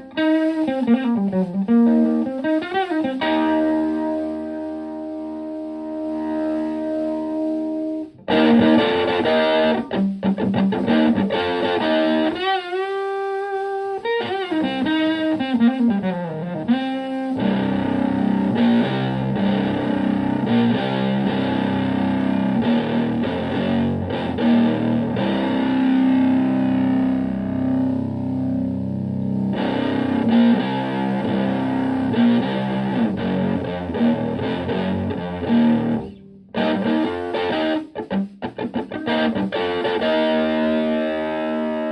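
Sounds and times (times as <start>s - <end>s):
overdriven electric guitar: 0.0s - 41.9s.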